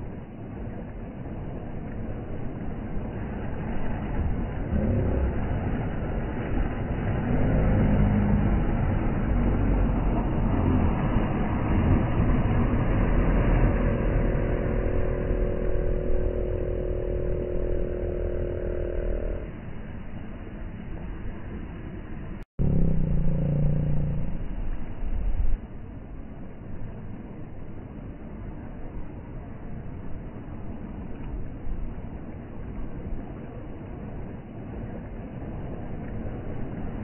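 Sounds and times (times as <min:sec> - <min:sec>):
outboard boat motors: 0:00.0 - 0:37.0
water: 0:00.0 - 0:37.0
wind: 0:00.0 - 0:37.0.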